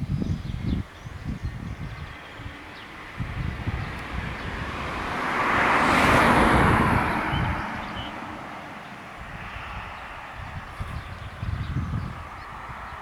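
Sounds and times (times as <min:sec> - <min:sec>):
wind rumbling on microphone: 0:00.0 - 0:13.0
vehicle passing by: 0:01.6 - 0:13.0.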